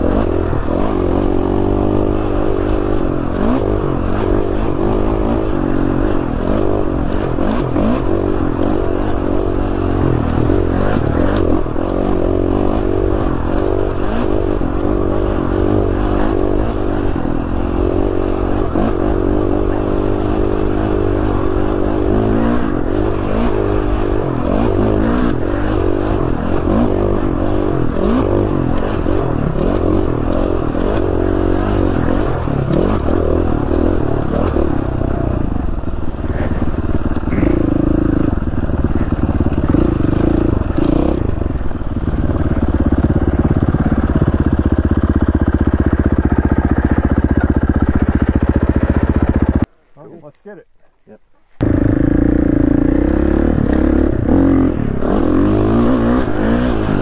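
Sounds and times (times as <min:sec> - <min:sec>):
dirt bike engine revving: 0:00.0 - 0:49.7, 0:51.6 - 0:57.0.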